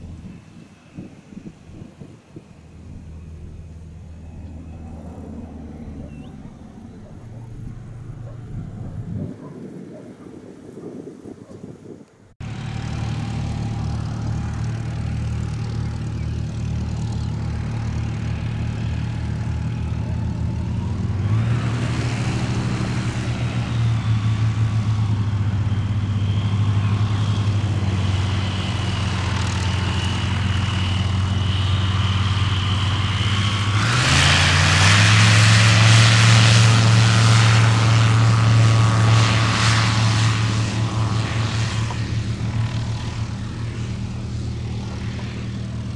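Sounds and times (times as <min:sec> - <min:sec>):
light aircraft propeller engine: 0:00.0 - 0:45.9.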